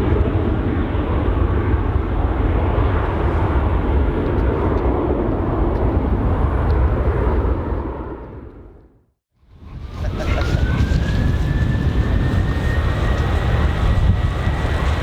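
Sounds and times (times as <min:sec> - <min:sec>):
jet engines rumbling: 0:00.0 - 0:08.6, 0:09.5 - 0:15.0.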